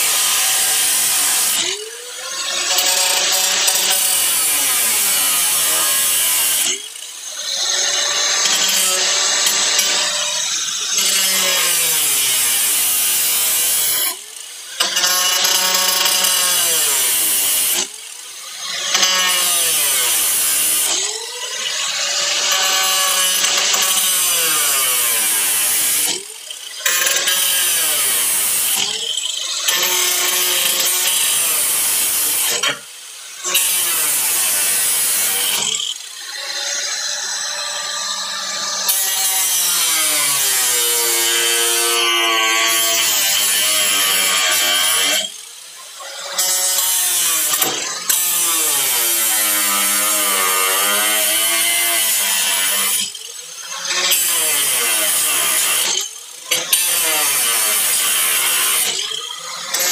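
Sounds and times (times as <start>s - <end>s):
grinder cutting steel: 0.0s - 59.9s.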